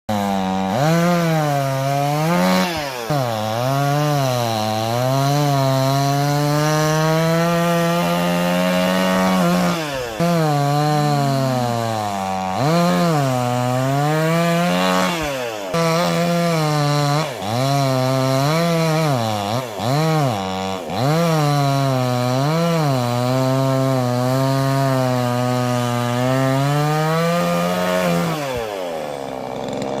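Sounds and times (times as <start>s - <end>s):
chainsaw cutting log: 0.1s - 30.0s.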